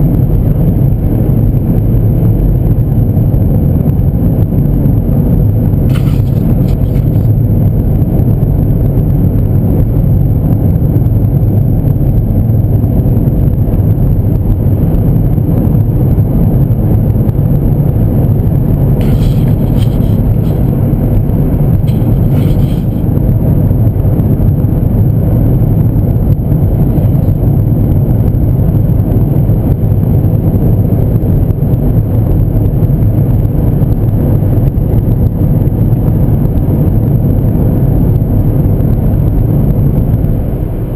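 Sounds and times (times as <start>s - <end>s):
car road and engine noise: 0.0s - 40.9s
deep rumble of tyres: 0.0s - 40.9s.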